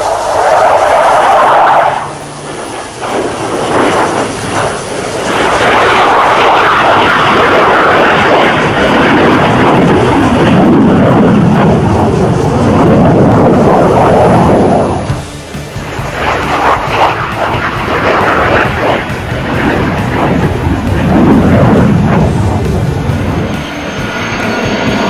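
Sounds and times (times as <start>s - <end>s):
fighter jet flyby: 0.0s - 25.0s.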